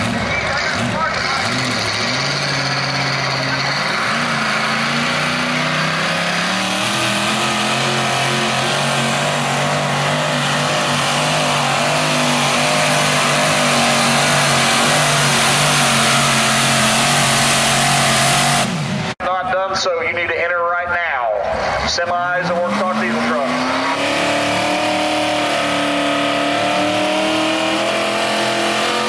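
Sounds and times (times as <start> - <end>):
tractor engine at high revs: 0.0 - 19.2, 21.4 - 29.0.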